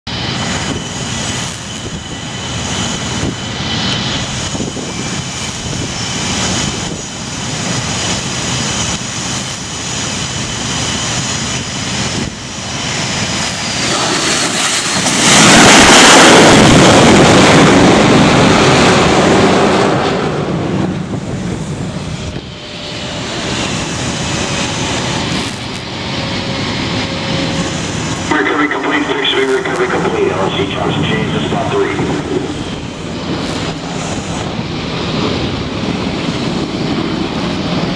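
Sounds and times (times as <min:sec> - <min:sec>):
high whine: 0:00.1 - 0:37.9
jet noise: 0:00.1 - 0:37.9
landing jet roar: 0:00.1 - 0:37.9.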